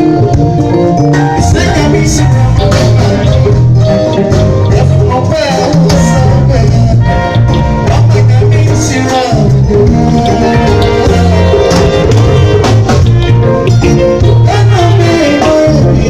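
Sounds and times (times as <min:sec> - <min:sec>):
band playing upbeat music: 0:00.0 - 0:16.0.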